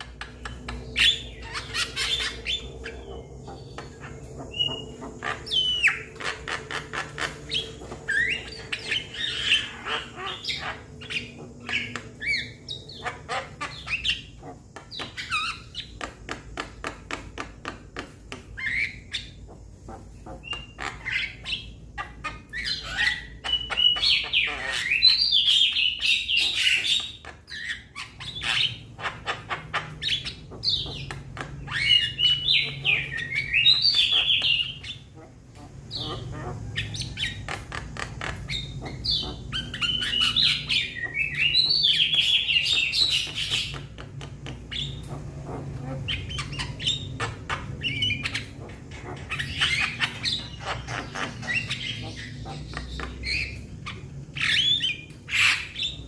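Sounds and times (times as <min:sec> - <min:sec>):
bird chattering and whistling: 0:00.0 - 0:17.8, 0:18.4 - 0:56.0
faint low hum: 0:00.0 - 0:56.0.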